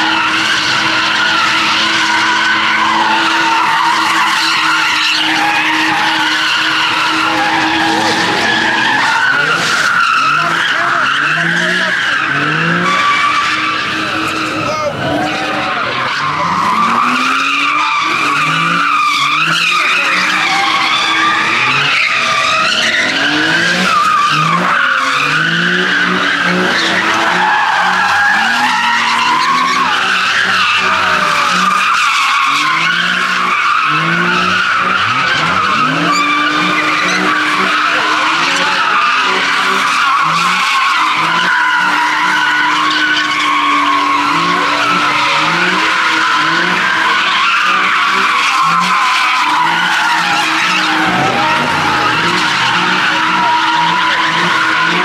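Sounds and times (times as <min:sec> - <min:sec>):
car engine revving: 0:00.0 - 0:55.0
tyres screeching: 0:00.0 - 0:55.0.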